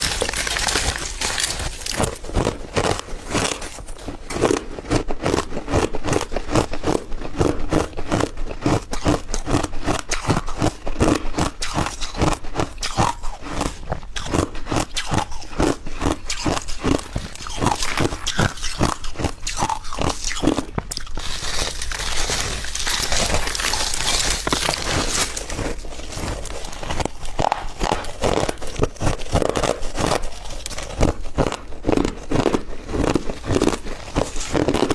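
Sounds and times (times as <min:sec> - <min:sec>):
ice being chewed: 0:00.0 - 0:34.9.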